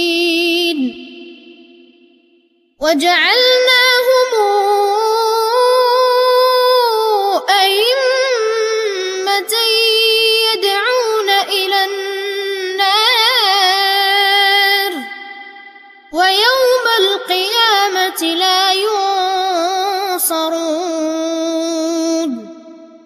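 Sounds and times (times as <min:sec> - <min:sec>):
boy chanting melodically: 0:00.0 - 0:01.8, 0:02.8 - 0:23.0.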